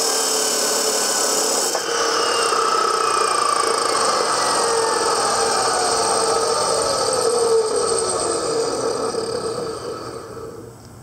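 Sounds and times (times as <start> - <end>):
saw grinding through steel: 0.0 - 10.7
motor whine winding down: 0.0 - 10.9.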